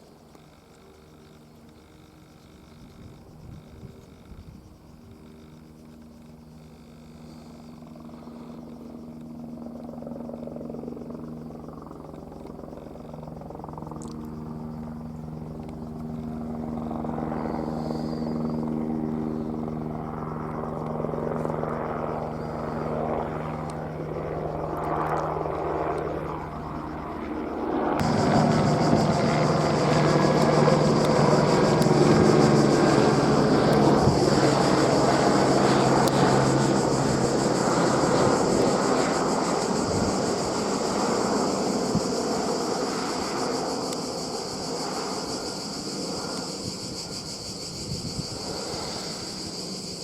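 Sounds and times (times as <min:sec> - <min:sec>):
helicopter rotor and turbine hum: 0:00.0 - 0:50.0.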